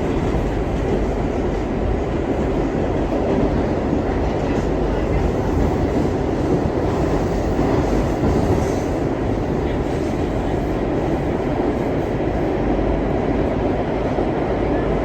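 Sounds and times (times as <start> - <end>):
subway train wheels rumbling on rail: 0.0 - 15.0.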